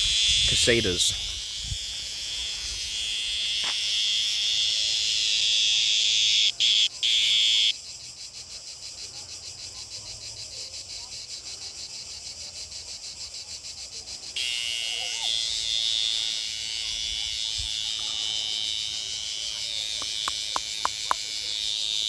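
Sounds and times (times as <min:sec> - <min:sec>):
cicada buzzing: 0:00.0 - 0:22.0.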